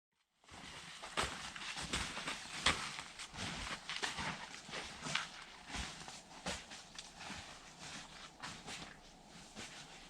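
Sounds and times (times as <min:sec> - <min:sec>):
footsteps crunching through snow: 0:00.4 - 0:10.0.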